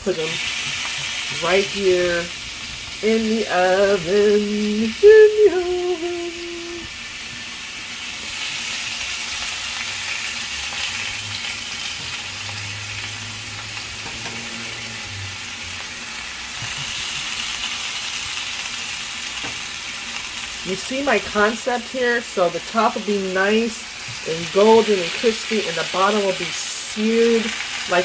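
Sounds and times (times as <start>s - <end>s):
chicken sizzling on a grill pan: 0.0s - 28.0s.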